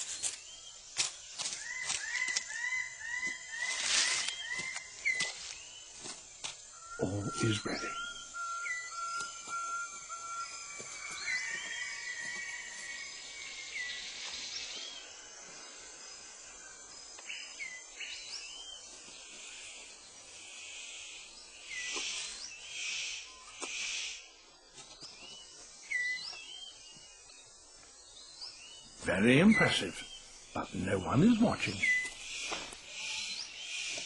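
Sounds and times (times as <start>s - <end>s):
insect trilling: 0.0s - 34.0s
short upswept bird chirps: 0.0s - 34.0s.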